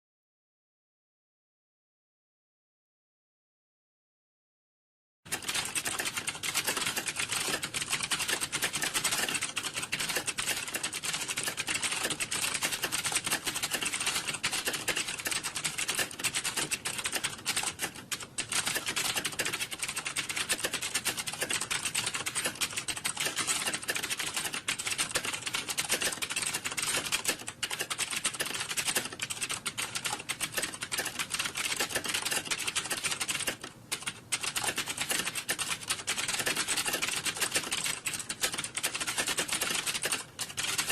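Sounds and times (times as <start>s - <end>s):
keyboard typing clatter: 5.3s - 40.9s.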